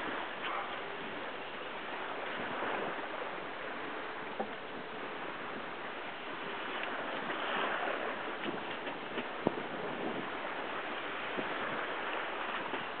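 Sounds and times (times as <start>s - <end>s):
water rushing along hull: 0.0s - 13.0s.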